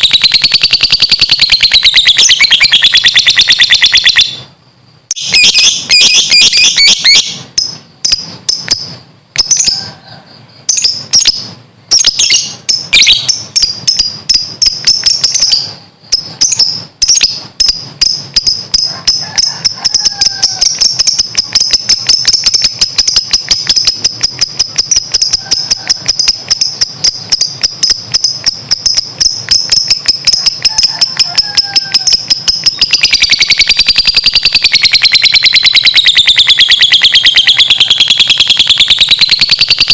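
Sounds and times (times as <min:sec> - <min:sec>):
lovebird shrill chatter: 0:00.0 - 0:04.4, 0:05.1 - 0:09.9, 0:10.7 - 0:39.9.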